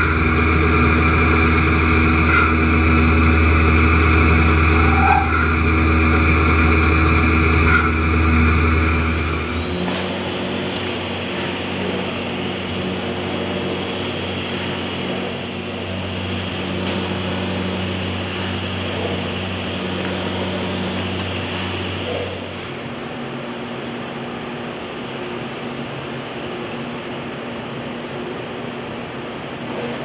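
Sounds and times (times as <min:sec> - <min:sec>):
machining centre humming: 0:00.0 - 0:30.0.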